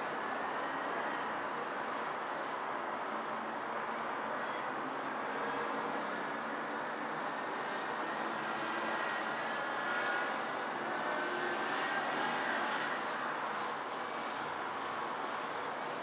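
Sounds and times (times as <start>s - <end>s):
distant city traffic: 0.0s - 16.0s.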